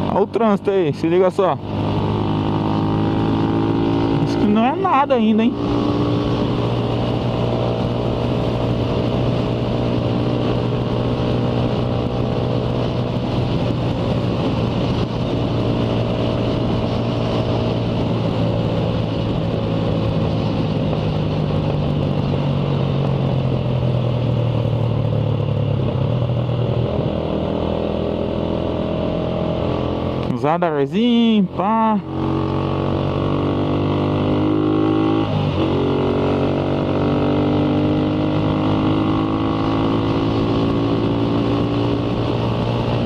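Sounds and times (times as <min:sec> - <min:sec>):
motorcycle engine running: 0:00.0 - 0:43.0
wind rushing over microphone: 0:00.0 - 0:43.0.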